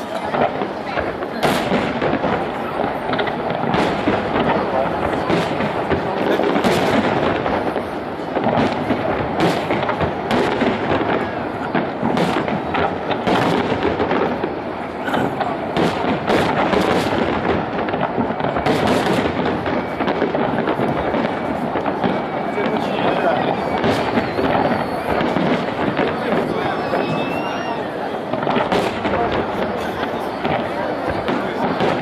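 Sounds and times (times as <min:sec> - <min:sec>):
firework bangs: 0:00.0 - 0:32.0
firework crackling: 0:00.0 - 0:32.0.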